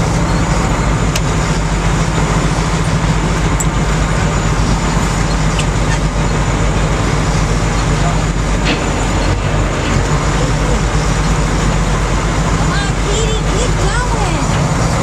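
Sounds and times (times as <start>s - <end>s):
boat engines running: 0.0s - 15.0s
water rushing: 0.0s - 15.0s.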